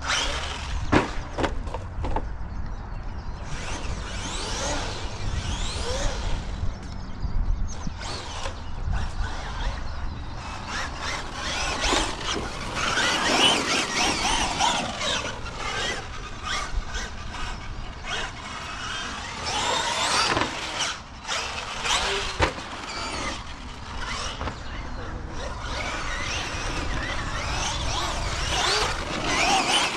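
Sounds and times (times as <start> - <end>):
tyre and drivetrain noise: 0.0 - 29.9
electric motor whine: 3.4 - 29.9.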